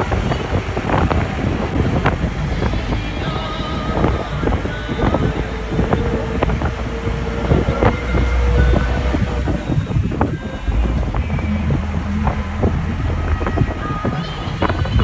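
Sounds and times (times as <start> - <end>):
vehicle rumble on road: 0.0 - 15.0
wind buffeting microphone: 0.0 - 15.0.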